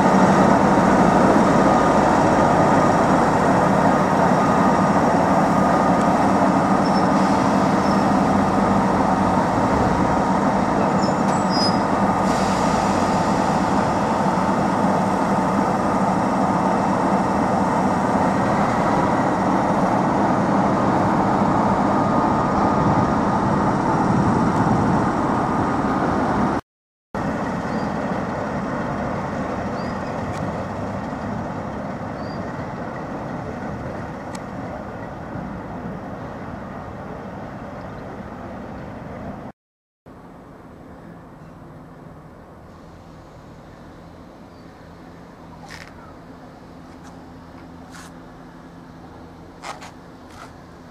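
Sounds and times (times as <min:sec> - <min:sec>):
diesel locomotive engines humming: 0:00.0 - 0:26.6, 0:27.2 - 0:39.5, 0:40.1 - 0:50.9.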